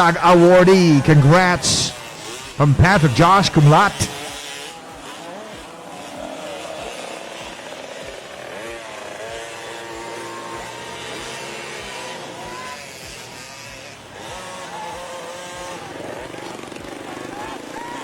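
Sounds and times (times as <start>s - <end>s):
motocross bike engines buzzing: 0.0s - 18.0s.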